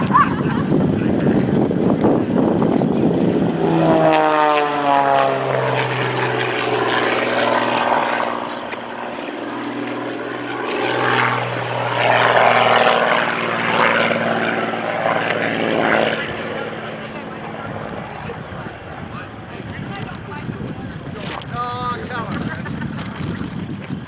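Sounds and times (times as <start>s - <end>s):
propeller plane flying past: 0.0s - 24.0s.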